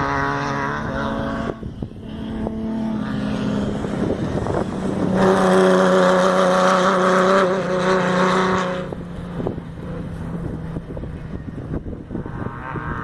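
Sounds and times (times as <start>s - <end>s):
race vehicle engine passing: 0.0s - 13.0s.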